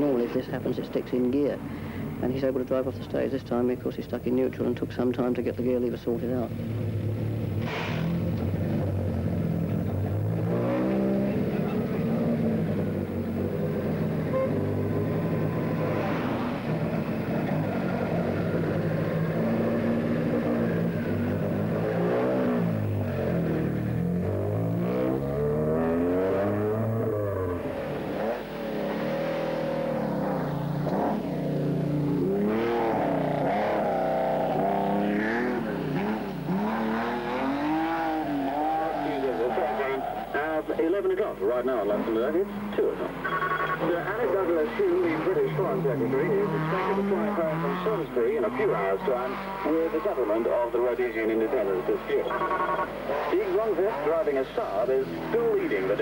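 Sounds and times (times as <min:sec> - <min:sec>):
rally car engine revving: 0:04.6 - 0:56.0.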